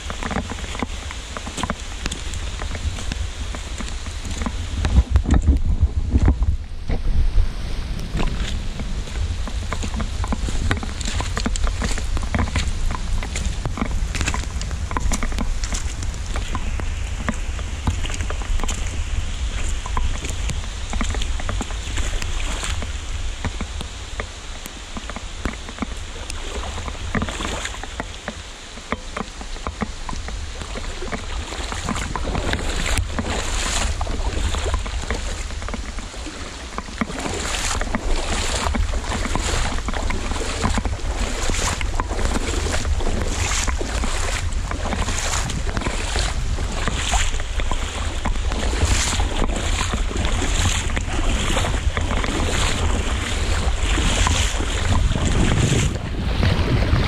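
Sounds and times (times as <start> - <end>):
boots splashing through water: 0.0 - 57.0
heavy rain on water: 0.0 - 57.0
wind rumble on microphone: 0.0 - 57.0.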